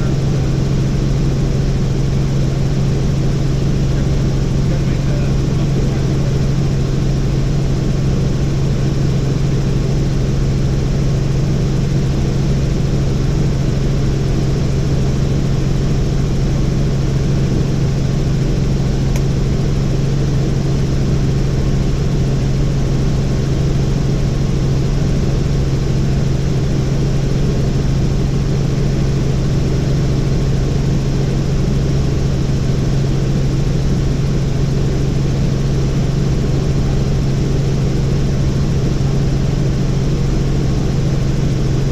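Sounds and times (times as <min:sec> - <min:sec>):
helicopter rotor and engine drone: 0:00.0 - 0:41.9.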